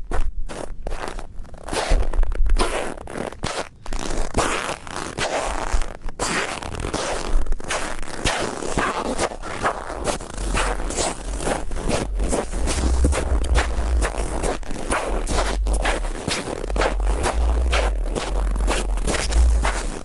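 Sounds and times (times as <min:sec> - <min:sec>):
footsteps crunching in snow: 0:00.0 - 0:20.0.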